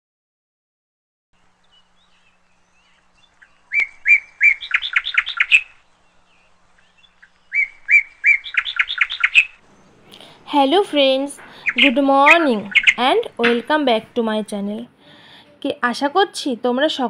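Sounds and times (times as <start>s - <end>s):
songbird singing: 1.4s - 15.2s.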